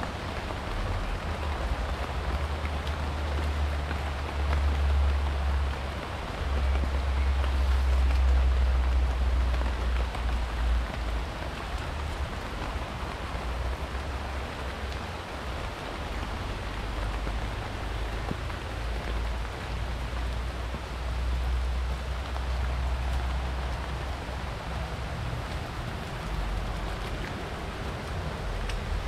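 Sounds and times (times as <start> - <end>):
rain falling on leaves: 0.0 - 29.0.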